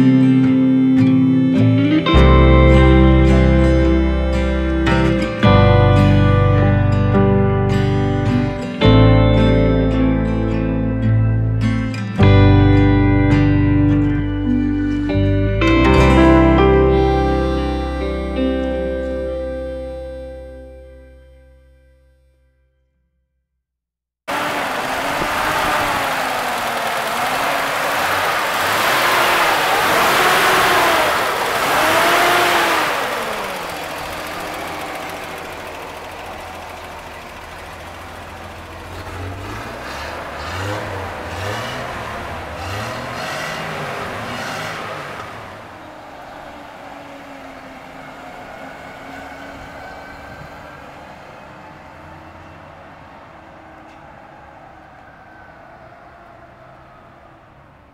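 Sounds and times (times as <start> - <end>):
truck engine revving: 0.0 - 21.6, 24.3 - 57.9
truck pulling away: 0.0 - 22.1, 24.3 - 57.9.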